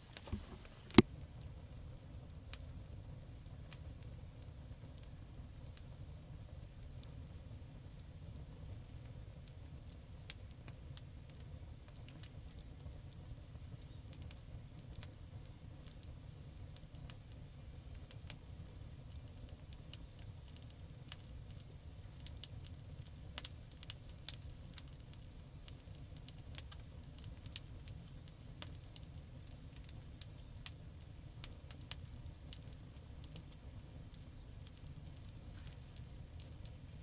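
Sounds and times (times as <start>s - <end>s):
campfire snaps and pops: 0.0s - 37.0s
low rumble of burning fire: 0.0s - 37.0s.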